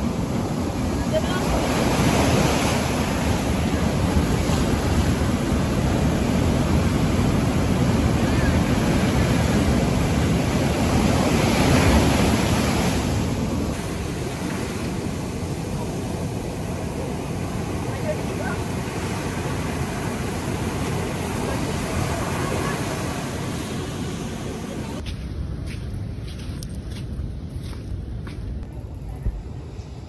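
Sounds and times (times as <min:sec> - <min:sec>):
ocean surf washing around rocks: 0:00.0 - 0:25.0.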